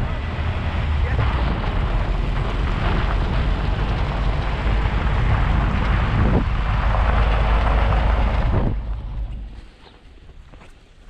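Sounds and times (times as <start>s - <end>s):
truck engine and tyres on gravel: 0.0s - 11.0s.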